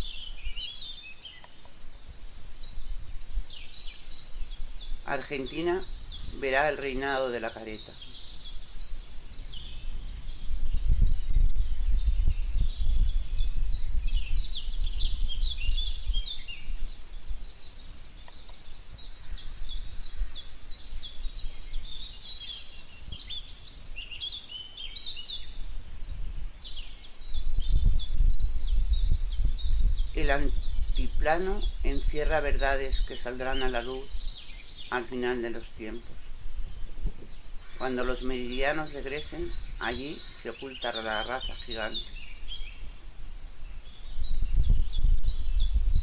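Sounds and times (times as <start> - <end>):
small birds chirping and trilling: 0.0 - 46.0.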